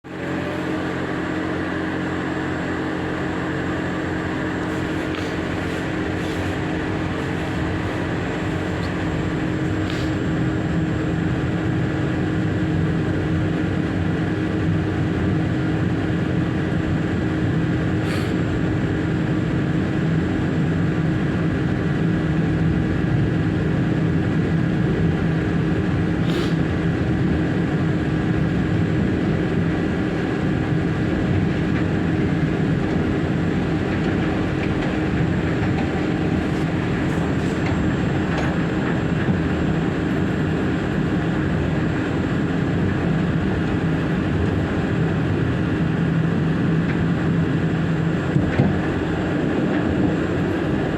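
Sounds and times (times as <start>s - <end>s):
train running noise and hum: 0.0s - 50.9s.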